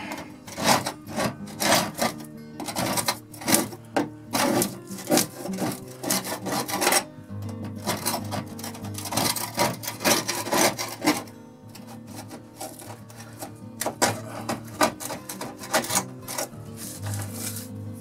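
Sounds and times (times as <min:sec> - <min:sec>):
putty knife scraping foam: 0:00.0 - 0:07.0, 0:07.7 - 0:17.7
guitar instrumental music: 0:00.0 - 0:18.0.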